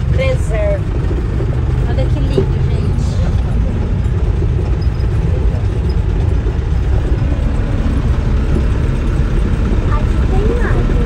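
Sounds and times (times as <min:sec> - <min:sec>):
van road and wind noise: 0:00.0 - 0:11.0.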